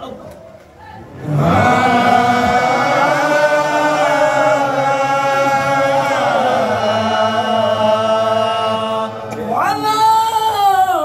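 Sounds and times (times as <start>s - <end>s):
men chanting: 1.0s - 10.8s.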